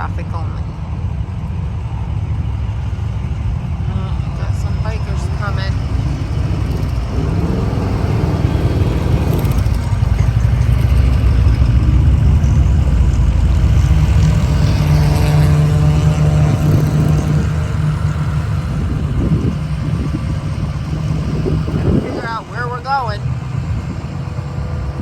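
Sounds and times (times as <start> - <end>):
low engine rumble: 0.0 - 25.0
clearer engine note: 3.3 - 25.0.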